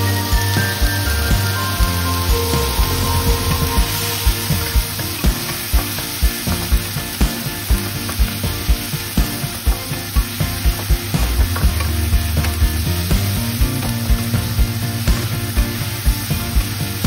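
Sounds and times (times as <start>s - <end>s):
background music with beat: 0.0s - 17.0s
food sizzling in hot oil: 0.0s - 17.0s.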